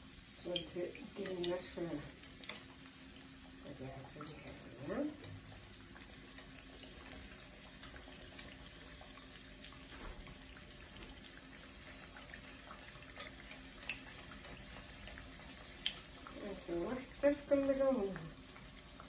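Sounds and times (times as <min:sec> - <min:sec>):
dough sizzling in hot oil: 0:00.0 - 0:19.0.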